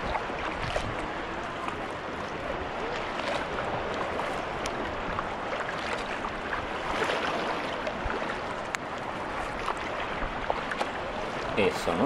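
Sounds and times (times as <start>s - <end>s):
water splashing around kayak: 0.0s - 12.0s.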